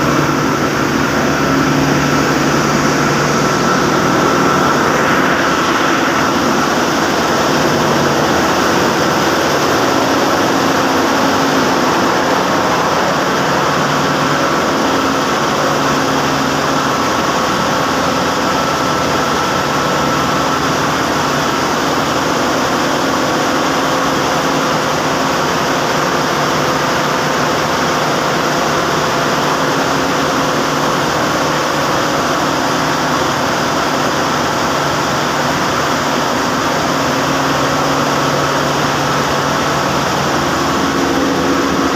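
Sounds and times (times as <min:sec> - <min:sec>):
ship engine drone: 0:00.0 - 0:41.9.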